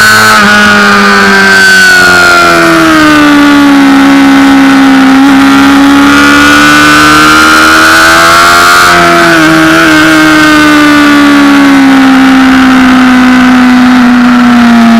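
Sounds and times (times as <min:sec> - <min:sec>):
motorcycle engine at high revs: 0:00.0 - 0:14.9.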